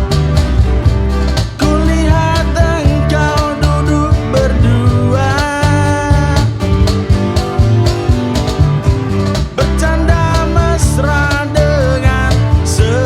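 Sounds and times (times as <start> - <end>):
live band playing: 0.0 - 13.0
melodic lead line: 0.0 - 13.0.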